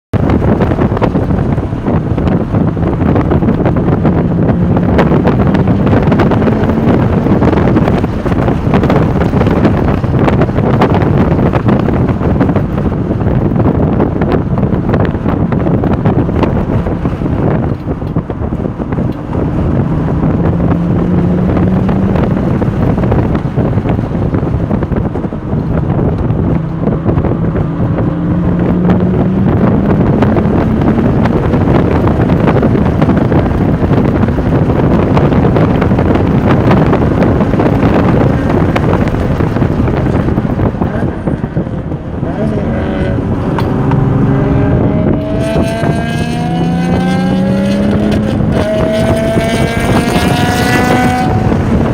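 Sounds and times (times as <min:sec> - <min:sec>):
wind buffeting on microphone: 0:00.1 - 0:51.9
sports car engine accelerating: 0:00.2 - 0:51.9.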